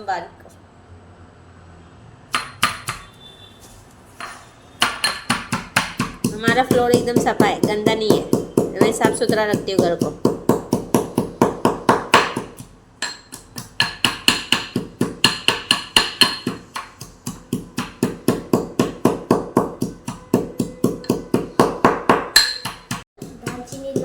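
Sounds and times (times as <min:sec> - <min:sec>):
mortar and pestle pounding: 0:02.3 - 0:03.1, 0:04.8 - 0:24.0.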